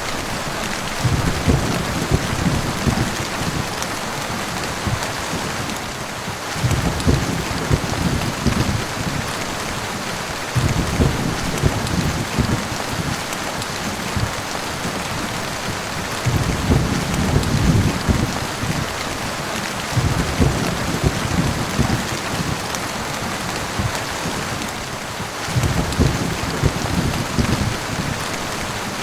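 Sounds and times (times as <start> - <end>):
heavy rain: 0.0 - 29.0
thunder rumbling: 0.0 - 29.0.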